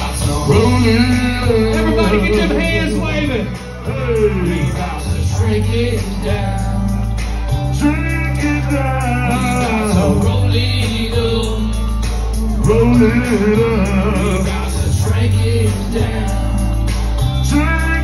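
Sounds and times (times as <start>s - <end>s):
rap backing track with heavy bass: 0.0s - 18.0s
sung melody: 0.0s - 18.0s.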